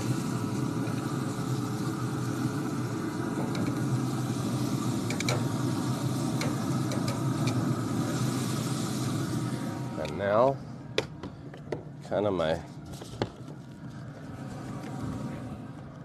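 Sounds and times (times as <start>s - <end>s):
low rumbling hum: 0.0s - 16.0s.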